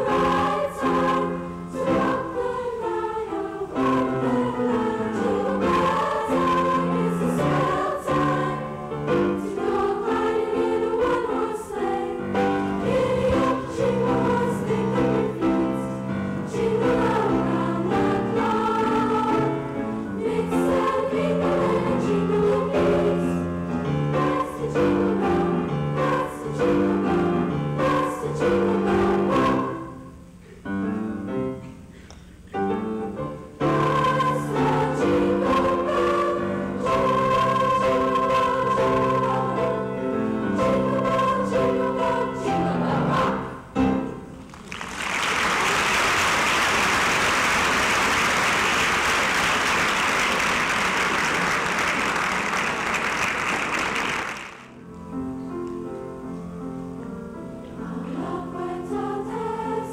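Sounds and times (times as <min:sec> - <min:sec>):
choir singing sustained chords: 0:00.0 - 0:31.6, 0:32.6 - 0:44.4, 0:54.5 - 0:59.9.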